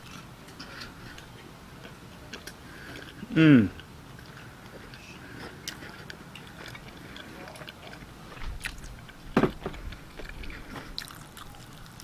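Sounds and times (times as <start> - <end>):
man chewing: 0.0 - 12.0.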